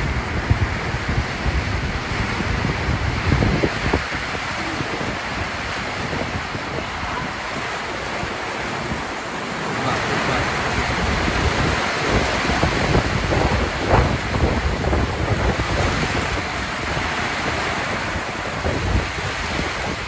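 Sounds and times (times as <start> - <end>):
heavy rain pouring: 0.0 - 20.0
wind gusts buffeting microphone: 0.0 - 20.0.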